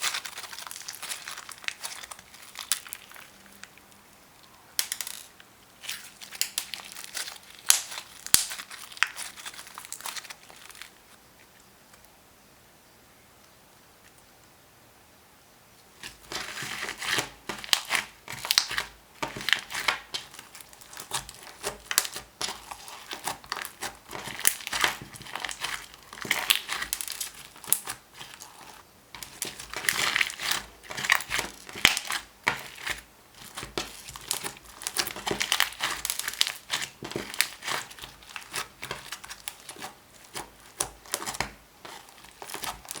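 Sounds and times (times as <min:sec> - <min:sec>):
slime crackling and clicking: 0:00.0 - 0:03.3, 0:04.8 - 0:10.9, 0:16.3 - 0:43.0.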